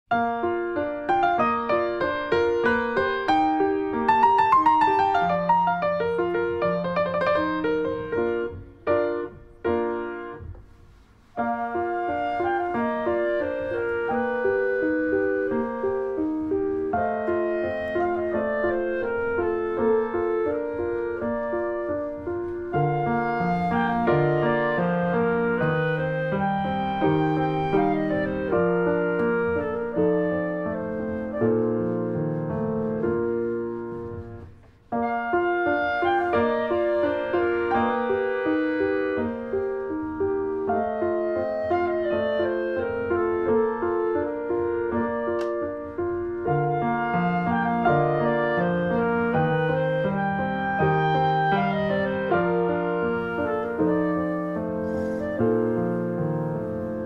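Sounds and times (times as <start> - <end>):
piano music: 0.1 - 57.0.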